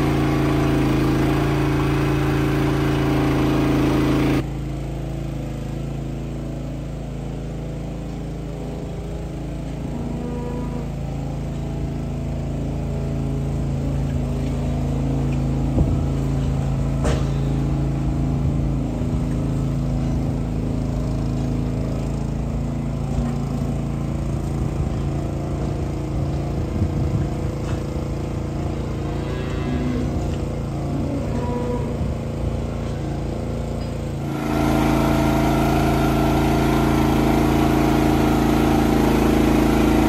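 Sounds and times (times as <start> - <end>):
machinery engine humming: 0.0 - 40.0.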